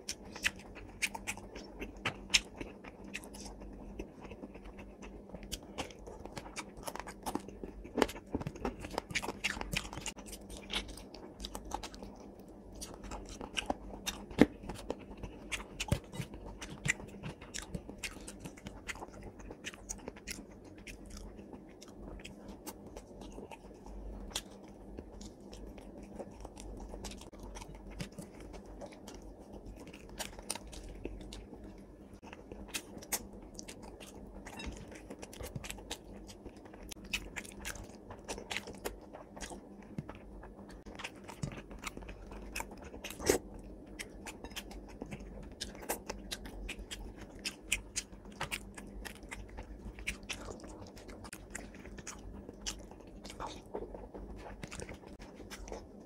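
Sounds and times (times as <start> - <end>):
person chewing with wet mouth clicks: 0.0 - 56.0.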